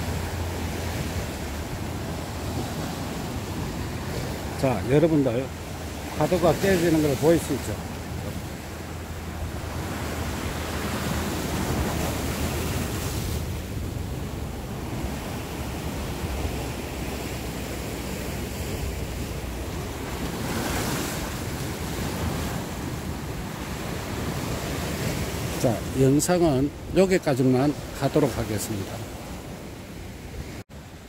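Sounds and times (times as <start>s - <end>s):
wind rumbling on microphone: 0.0s - 25.8s
surf breaking on rocks: 0.0s - 26.2s.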